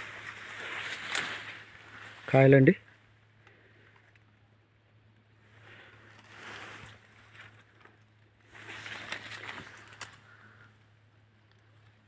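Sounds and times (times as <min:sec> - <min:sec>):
leaves and stems rustling: 0:00.0 - 0:04.4, 0:05.4 - 0:12.0.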